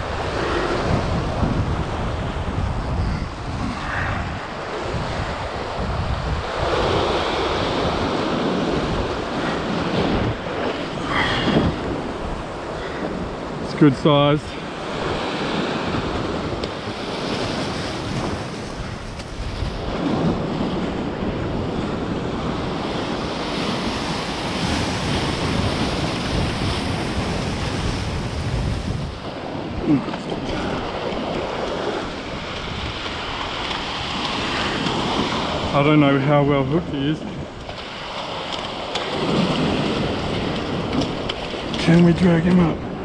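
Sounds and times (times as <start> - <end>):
ocean swell washing over rocks: 0.0 - 43.0
wind buffeting microphone: 0.0 - 43.0.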